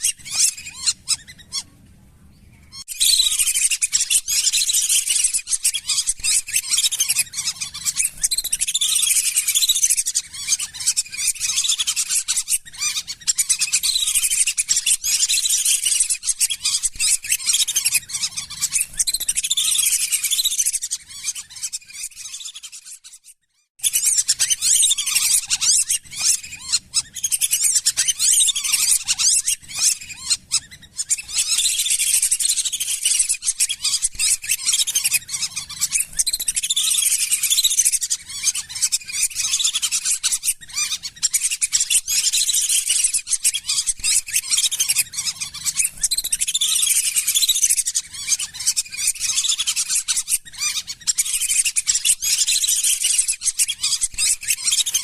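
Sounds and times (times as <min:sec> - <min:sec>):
whistling ducks calling: 0:00.0 - 0:01.7, 0:02.6 - 0:23.0, 0:23.8 - 0:55.0.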